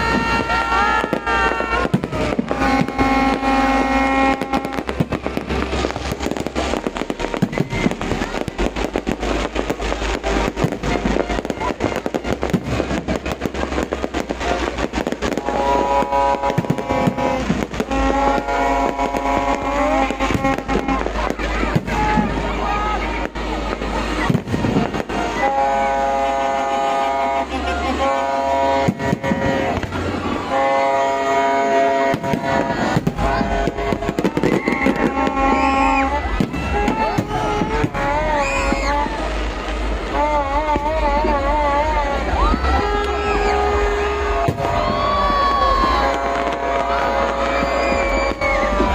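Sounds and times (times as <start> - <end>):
crowd voices: 0.0 - 48.9
fireworks banging and crackling: 0.0 - 48.9
steady pitched tones: 0.0 - 48.9.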